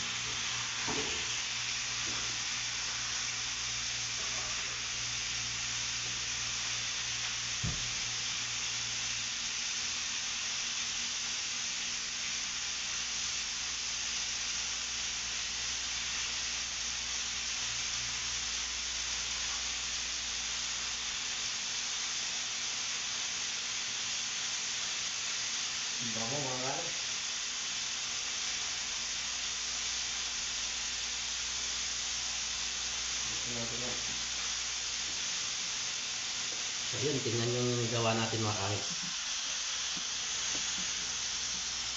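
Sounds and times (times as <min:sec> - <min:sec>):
steak sizzling in a pan: 0:00.0 - 0:41.9.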